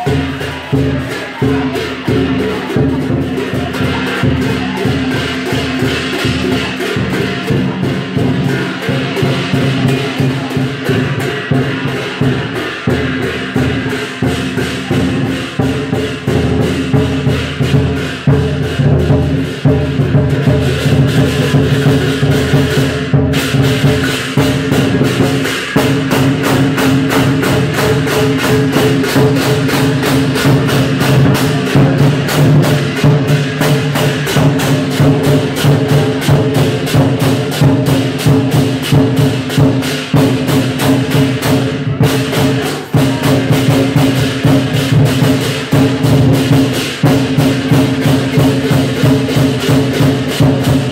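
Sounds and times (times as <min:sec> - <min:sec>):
hand cymbals clashing: 0:00.0 - 0:50.9
large drum beaten fast: 0:00.0 - 0:50.9.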